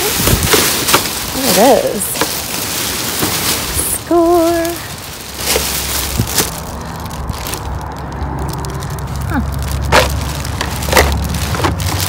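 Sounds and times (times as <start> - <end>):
plastic bag crinkling: 0.0 - 12.0
steady low rumble: 0.0 - 12.0.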